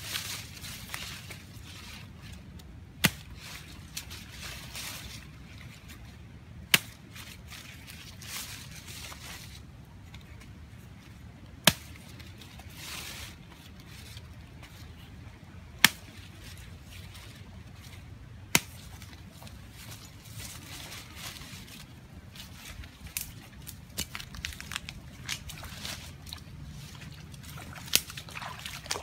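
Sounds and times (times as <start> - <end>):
leafy branches rustling: 0.0 - 29.0
branches snapping: 0.1 - 5.2, 6.6 - 15.1, 15.7 - 29.0.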